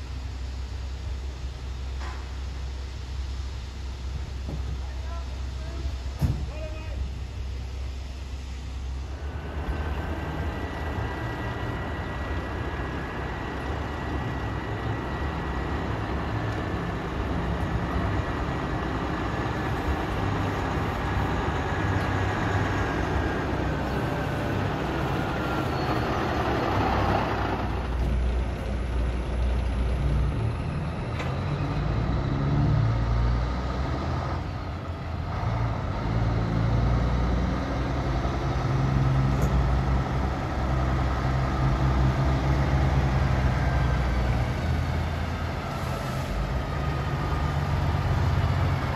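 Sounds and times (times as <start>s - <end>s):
trucks driving past: 0.0s - 48.9s.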